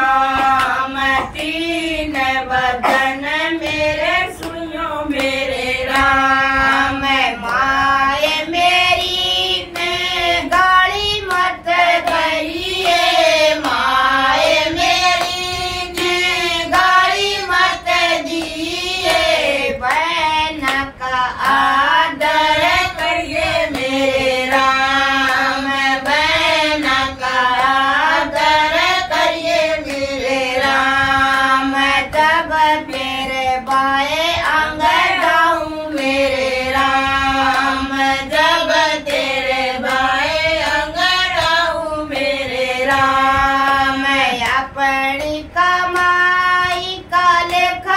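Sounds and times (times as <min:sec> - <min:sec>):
hand claps: 0:00.0 - 0:47.9
women singing together: 0:00.0 - 0:47.9.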